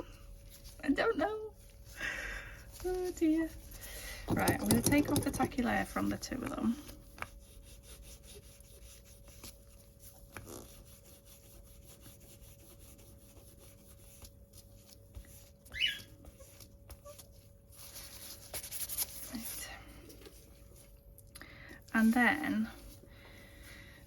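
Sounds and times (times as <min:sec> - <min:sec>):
wipe rubbing on nails: 0:00.1 - 0:02.0, 0:02.6 - 0:21.0.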